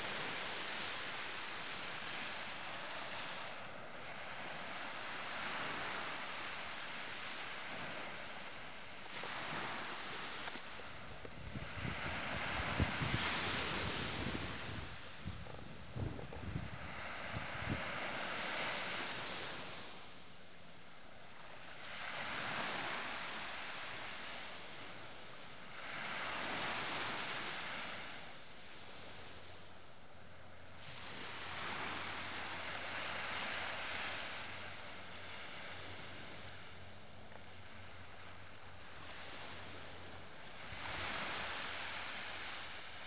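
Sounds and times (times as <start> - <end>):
sea waves washing ashore: 0.0 - 43.0.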